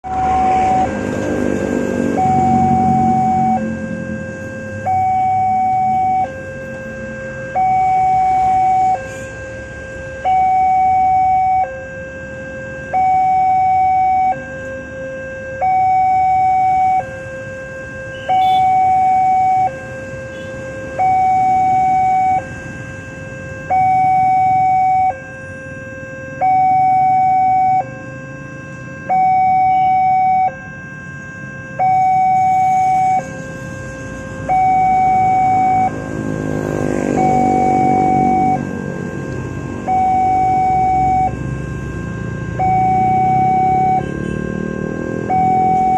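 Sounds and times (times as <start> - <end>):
level crossing two-tone alarm: 0.0 - 45.9.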